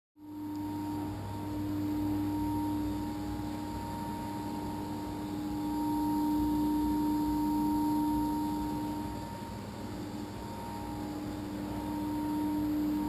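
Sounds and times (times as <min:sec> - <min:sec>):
water turbine humming with whine: 0:00.2 - 0:13.0.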